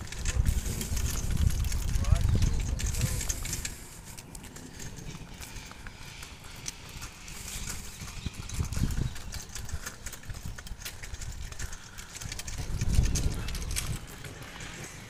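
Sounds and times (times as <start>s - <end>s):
footsteps on a paved path: 0.0s - 15.0s
wind buffeting the microphone: 0.0s - 15.0s.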